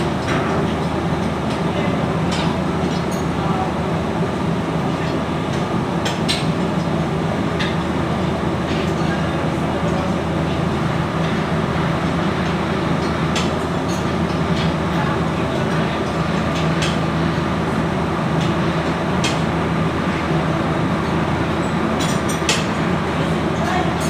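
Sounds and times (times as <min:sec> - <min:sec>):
low machinery hum: 0:00.0 - 0:24.0.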